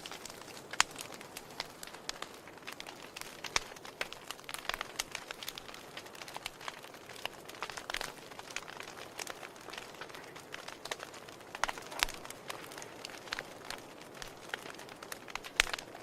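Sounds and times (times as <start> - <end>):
logs crackling and popping: 0.0 - 16.0
soft hiss of flames: 0.0 - 16.0.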